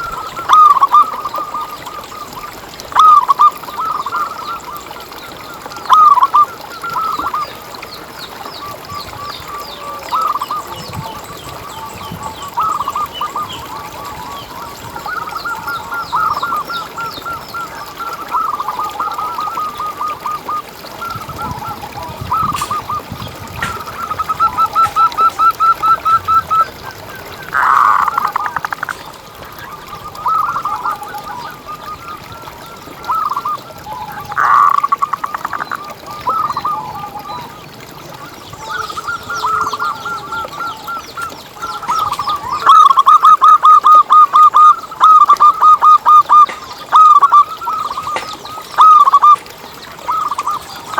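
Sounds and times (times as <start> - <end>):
dove cooing: 3.0 - 4.9, 9.5 - 37.6, 38.2 - 50.9.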